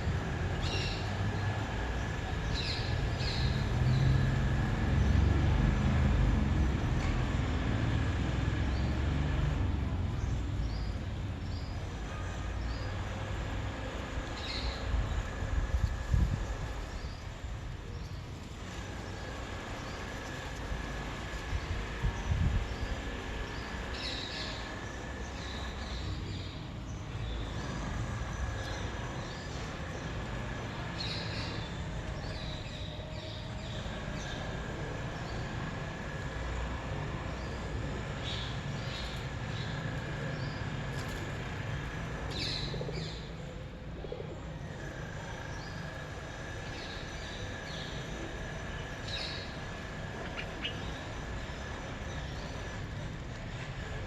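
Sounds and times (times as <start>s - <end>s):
birds chirping: 10.2s - 54.0s.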